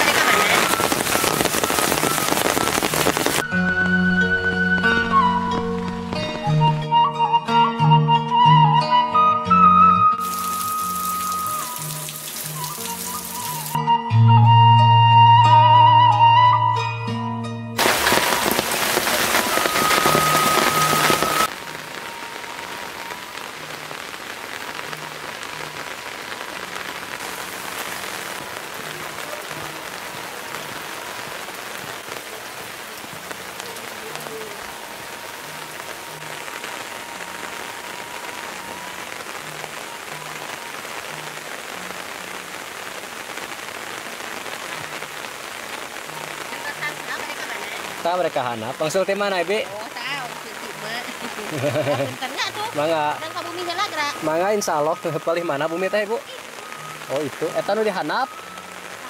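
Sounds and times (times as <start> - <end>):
rain pattering on leaves: 0.0 - 4.0, 10.2 - 13.8, 17.8 - 59.0.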